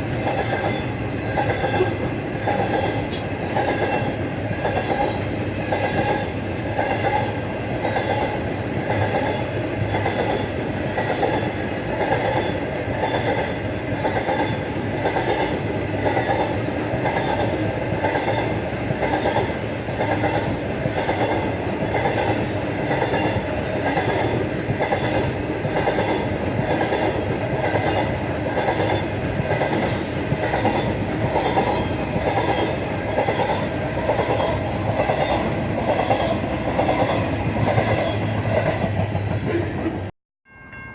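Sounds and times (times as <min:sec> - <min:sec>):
train wheels clickety-clack: 0:00.0 - 0:40.1.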